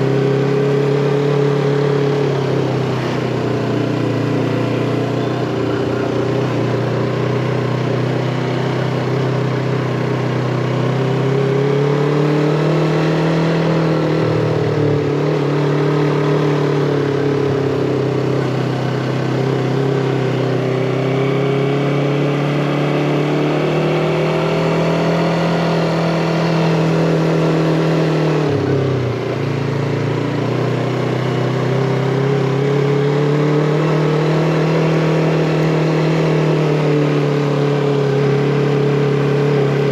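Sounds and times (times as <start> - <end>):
motorcycle engine climbing: 0.0 - 39.9.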